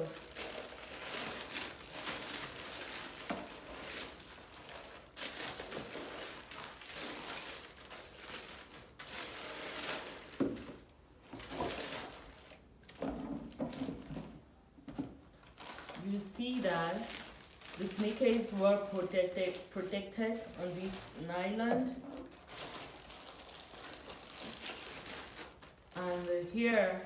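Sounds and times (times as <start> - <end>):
nylon wrapping crinkling: 0.0 - 14.5, 15.2 - 27.0.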